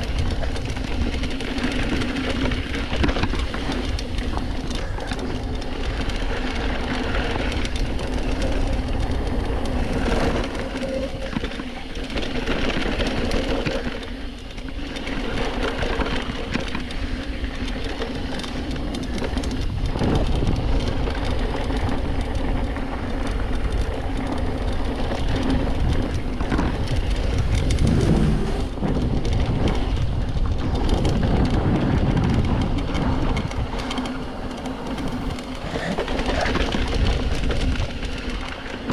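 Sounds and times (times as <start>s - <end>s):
bike tyres crunching over dirt: 0.0s - 38.9s
wind on microphone: 0.0s - 38.9s.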